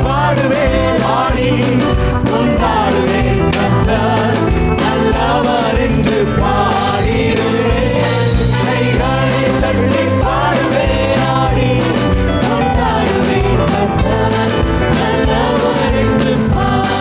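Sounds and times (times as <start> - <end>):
band accompaniment: 0.0 - 17.0
people singing: 0.0 - 17.0
steady drum beat: 0.0 - 17.0.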